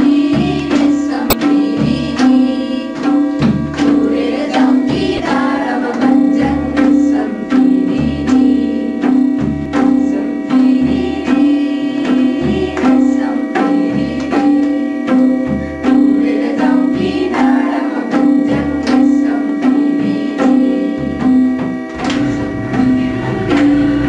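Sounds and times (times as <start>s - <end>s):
held drone tones: 0.0s - 24.0s
hand drums beating: 0.1s - 24.0s.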